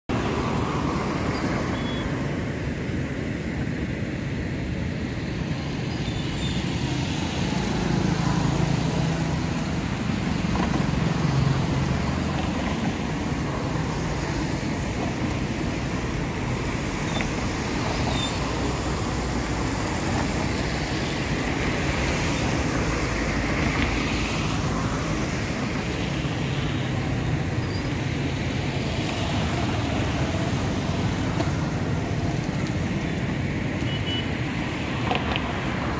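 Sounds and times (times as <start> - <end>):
road traffic passing: 0.1 - 35.9.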